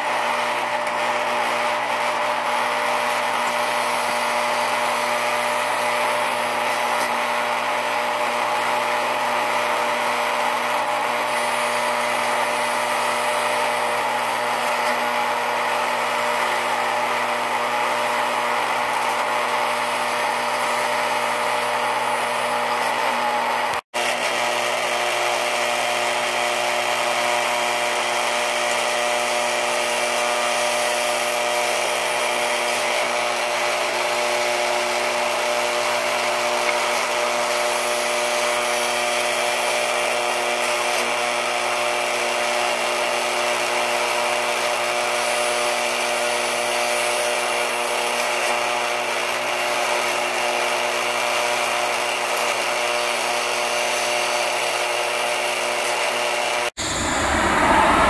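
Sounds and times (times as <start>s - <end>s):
toy sawmill mechanical buzz: 0.0s - 58.0s.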